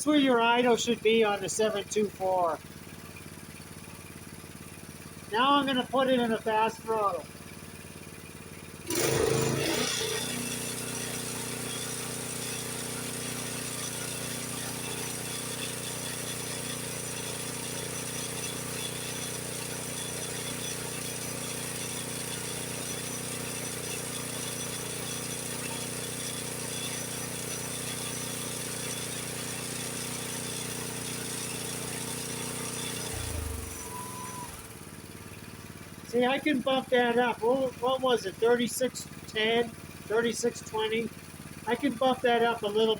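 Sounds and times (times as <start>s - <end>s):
snowblower engine revving: 0.0s - 42.9s.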